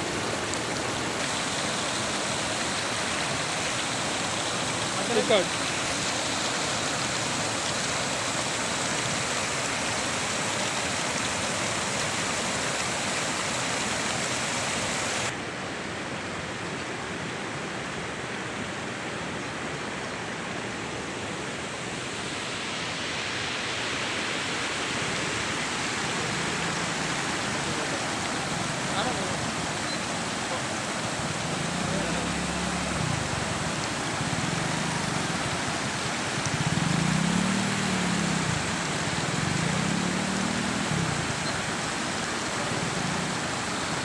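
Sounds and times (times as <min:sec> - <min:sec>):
floodwater rushing over rocks: 0:00.0 - 0:44.0.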